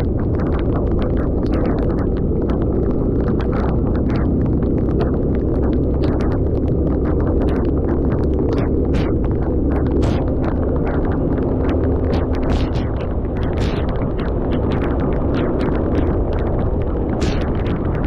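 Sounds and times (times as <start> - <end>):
short irregular ticks: 0.0 - 18.0
wind buffeting microphone: 0.0 - 18.0.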